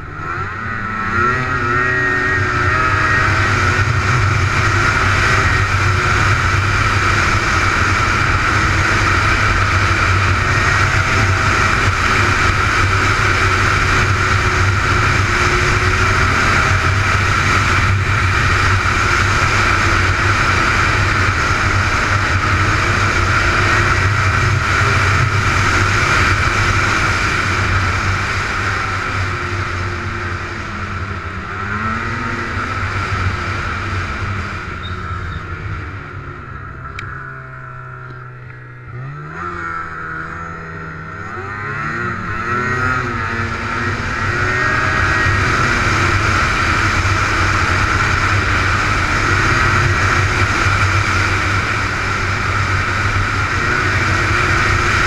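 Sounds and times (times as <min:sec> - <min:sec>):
high engine whine: 0:00.0 - 0:55.0
snowmobile engine drone: 0:00.0 - 0:55.0.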